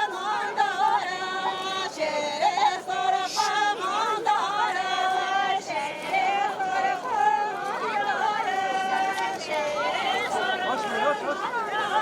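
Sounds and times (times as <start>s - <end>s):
crowd chatter: 0.0s - 12.0s
crowd singing together: 0.0s - 12.0s.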